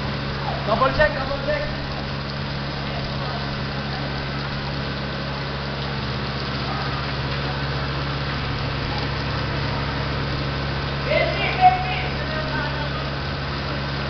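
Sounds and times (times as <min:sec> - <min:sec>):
fire truck engine running: 0:00.0 - 0:14.0.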